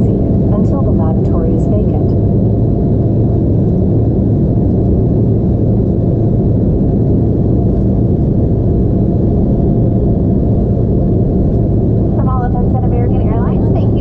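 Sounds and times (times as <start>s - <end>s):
jet engine cabin noise: 0.0s - 14.0s.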